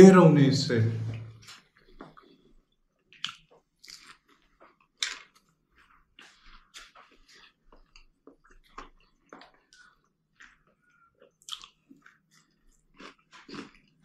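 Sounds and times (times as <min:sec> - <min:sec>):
soft chewing: 0:01.4 - 0:14.0.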